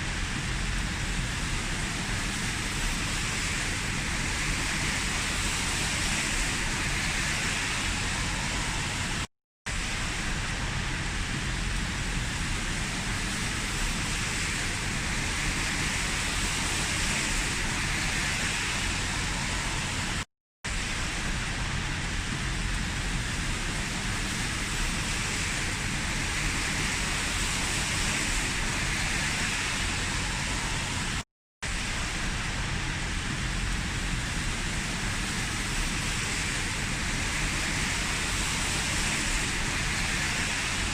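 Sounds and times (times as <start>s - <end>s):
heavy rain falling: 0.1s - 40.9s.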